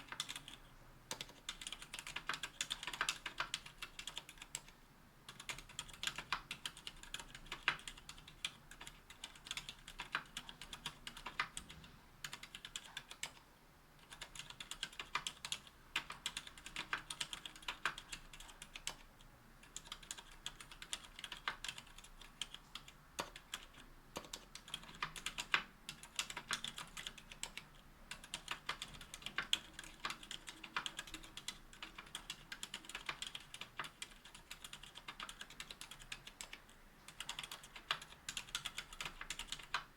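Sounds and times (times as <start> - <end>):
typing on mechanical keyboard: 0.0 - 4.7, 5.3 - 13.4, 14.0 - 39.9.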